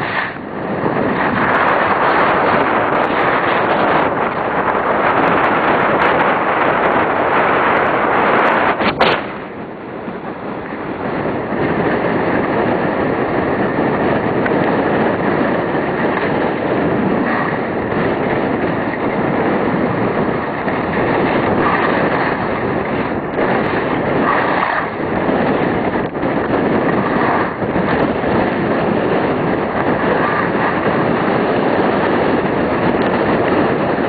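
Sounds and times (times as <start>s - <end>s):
skis running over snow: 0.0s - 9.3s, 10.4s - 34.0s
wind buffeting microphone: 0.0s - 34.0s.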